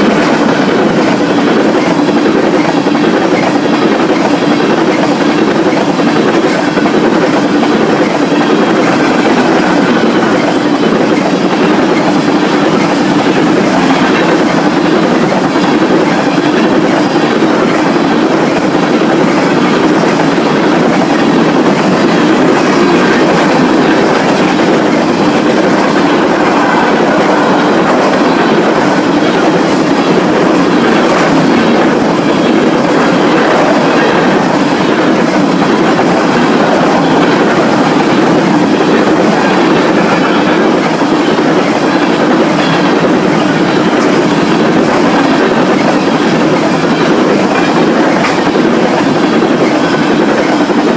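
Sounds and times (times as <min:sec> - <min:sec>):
freight train wheels clacking: 0:00.0 - 0:50.9.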